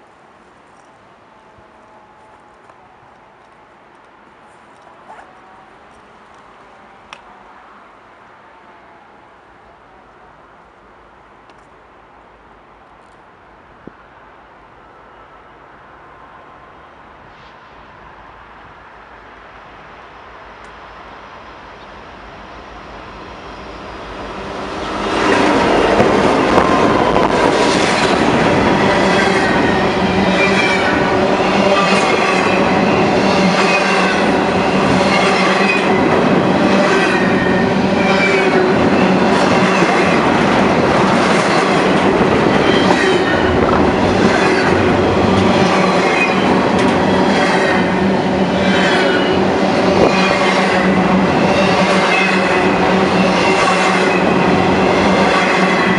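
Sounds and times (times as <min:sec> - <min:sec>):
train wheels on rail: 0:00.0 - 0:07.8, 0:15.0 - 0:55.9.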